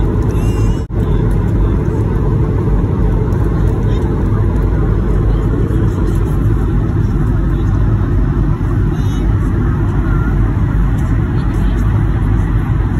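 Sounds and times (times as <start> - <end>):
jet engine rumble and roar: 0.0 - 12.9.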